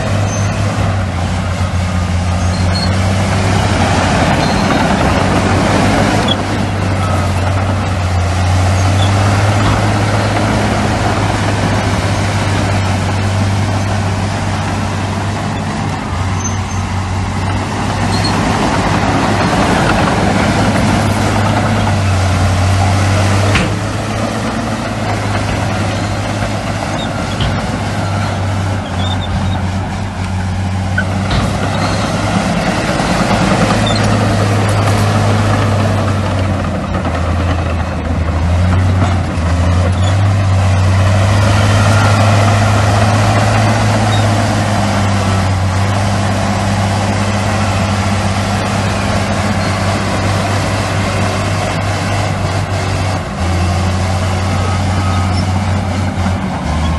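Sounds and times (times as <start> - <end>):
heavy machinery diesel engines: 0.0 - 56.9.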